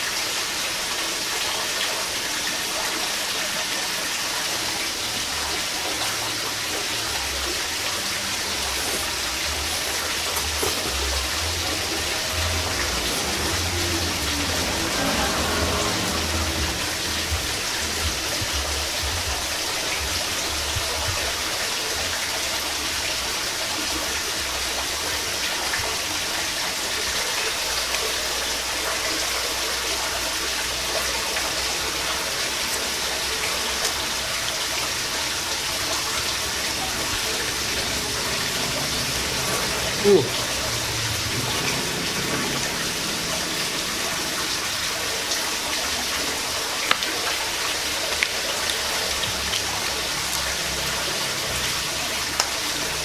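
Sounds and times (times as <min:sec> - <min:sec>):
rushing water hiss: 0:00.0 - 0:53.0.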